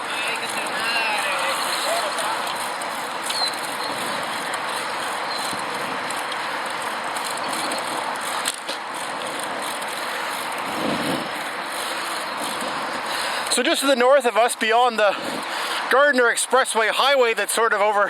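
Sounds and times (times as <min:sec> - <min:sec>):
bicycle road noise: 0:00.0 - 0:18.0.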